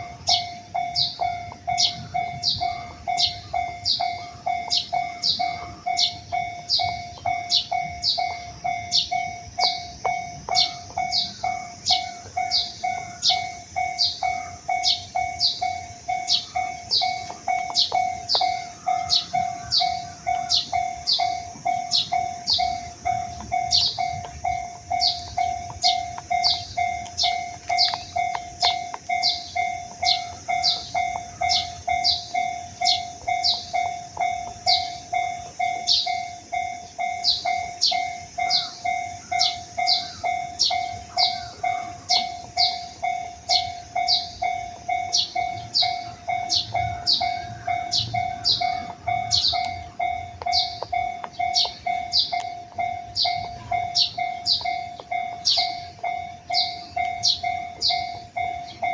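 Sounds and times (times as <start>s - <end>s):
level crossing alarm ringing: 0.0s - 58.9s
second alarm falling ding: 0.0s - 58.9s.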